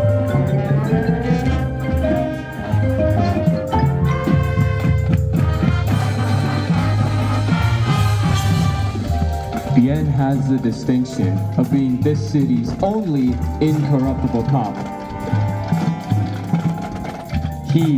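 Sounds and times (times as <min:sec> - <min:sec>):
brass chords: 0:00.0 - 0:17.9
marching band playing: 0:00.0 - 0:17.9
steady drum beat: 0:00.0 - 0:17.9.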